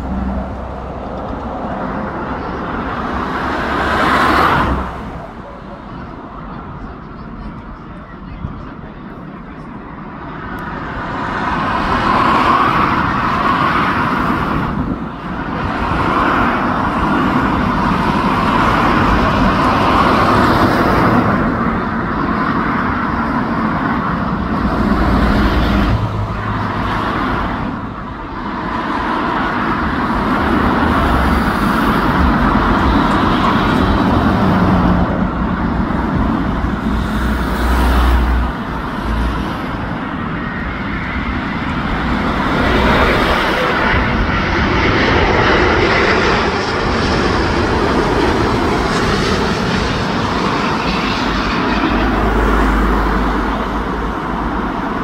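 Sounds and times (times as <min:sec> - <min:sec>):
loud engine roar: 0:00.0 - 0:07.6, 0:08.7 - 0:55.0.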